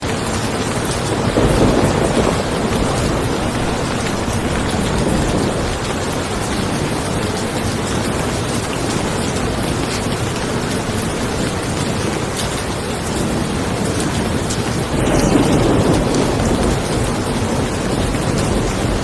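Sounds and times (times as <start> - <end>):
rain hissing on a car: 0.0 - 19.0
raindrop taps: 0.0 - 19.0.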